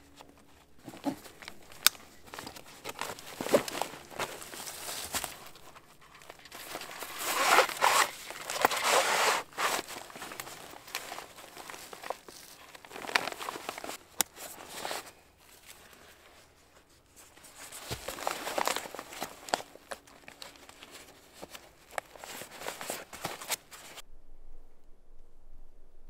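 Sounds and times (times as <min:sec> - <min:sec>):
backpack rustling and clicking: 0:00.1 - 0:16.1, 0:17.1 - 0:24.0.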